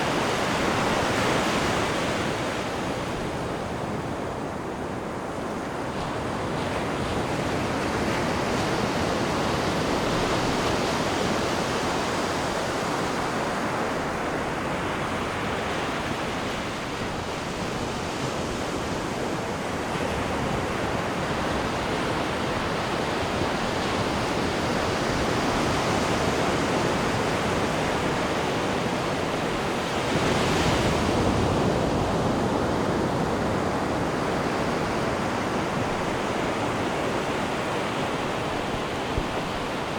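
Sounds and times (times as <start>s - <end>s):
sea water rushing and churning: 0.0s - 39.9s.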